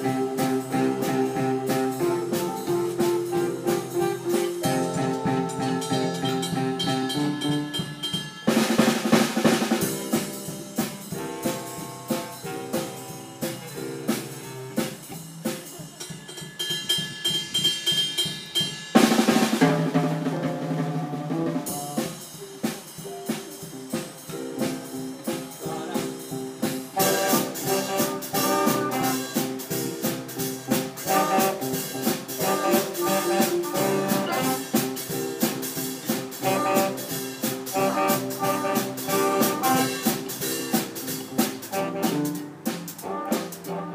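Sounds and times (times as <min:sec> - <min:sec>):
drum kit beat: 0:00.0 - 0:43.9
instrumental ensemble playing: 0:00.0 - 0:43.9.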